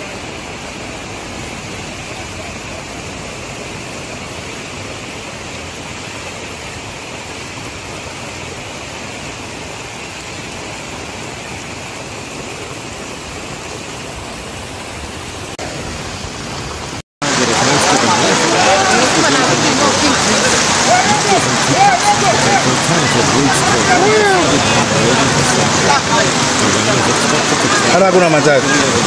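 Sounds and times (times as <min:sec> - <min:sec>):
heavy rain on a street: 0:00.0 - 0:29.0.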